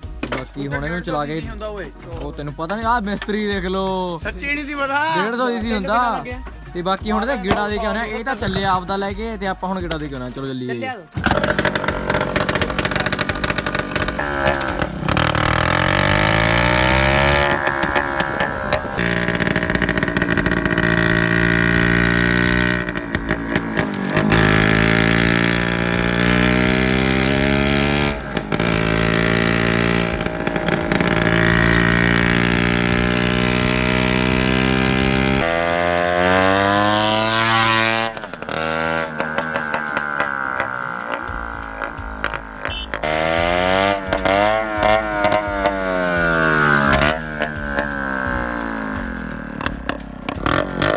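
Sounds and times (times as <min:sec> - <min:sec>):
loud scooter engine accelerating: 0:05.1 - 0:09.2, 0:11.2 - 0:50.9.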